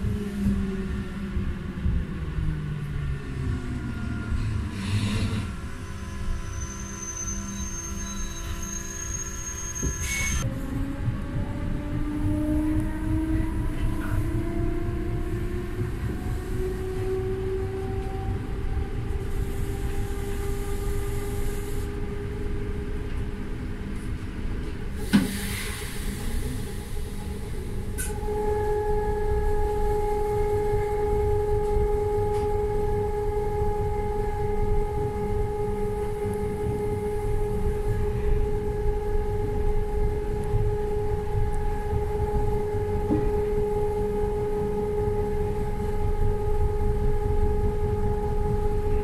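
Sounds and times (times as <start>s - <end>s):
electric train whine: 0.0s - 49.0s
train running gear rumble: 0.0s - 49.0s.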